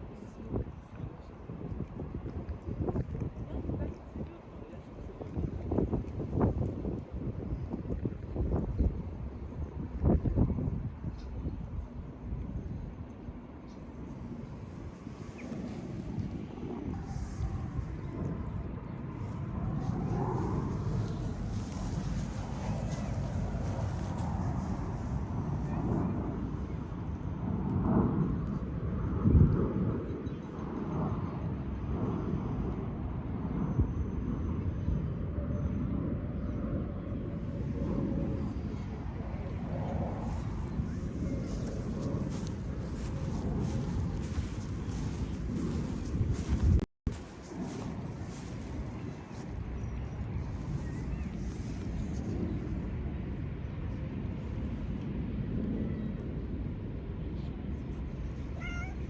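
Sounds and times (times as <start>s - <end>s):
low outdoor rumble: 0.0s - 33.5s, 34.4s - 59.0s.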